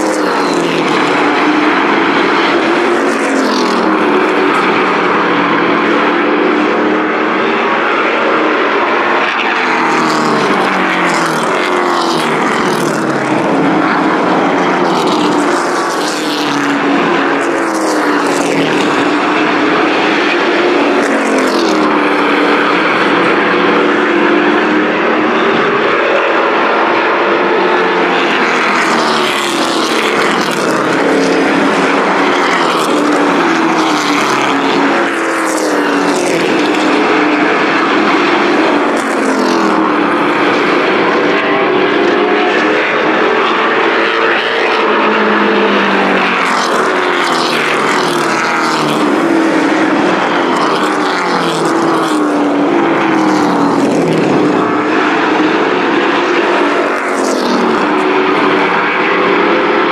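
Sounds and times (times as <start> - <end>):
race truck engines running hard: 0.0 - 59.9.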